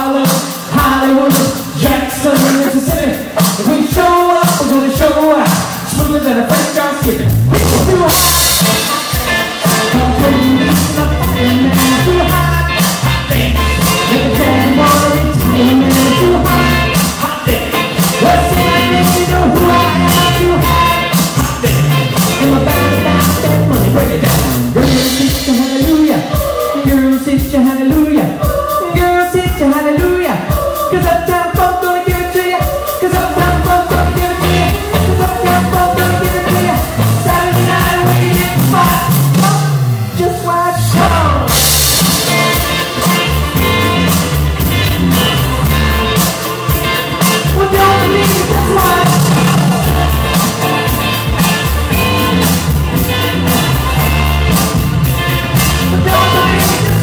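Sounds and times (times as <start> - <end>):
person singing: 0.0 - 44.2, 44.8 - 52.4, 53.4 - 57.0
live rock band playing: 0.0 - 57.0.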